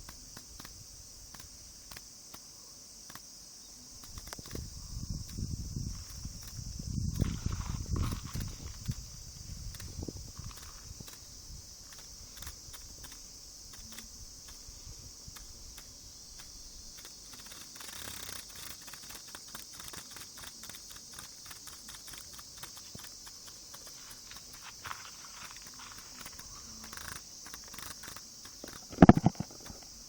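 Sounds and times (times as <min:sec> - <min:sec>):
insect chorus: 0:00.0 - 0:30.0
small dry clicks: 0:00.0 - 0:30.0.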